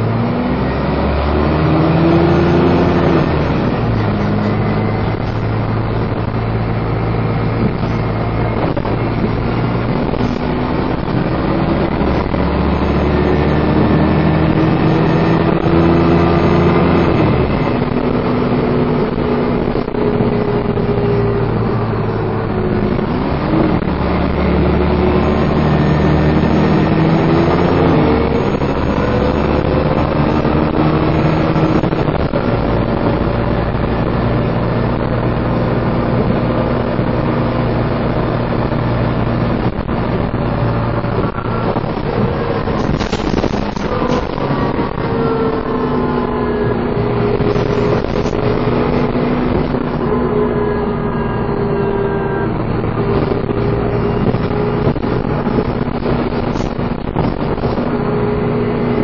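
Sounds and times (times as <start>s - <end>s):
bus engine whining: 0.0s - 59.0s.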